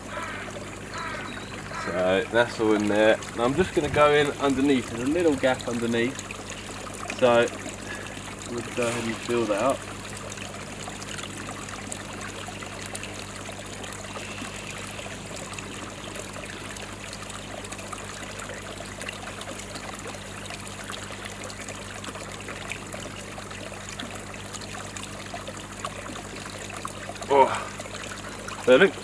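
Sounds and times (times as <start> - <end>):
low steady hum: 0.0 - 29.0
pond water trickling: 0.0 - 29.0.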